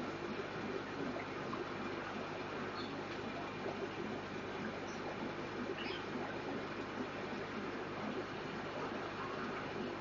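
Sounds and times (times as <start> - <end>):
aquarium filter hum: 0.0 - 10.0.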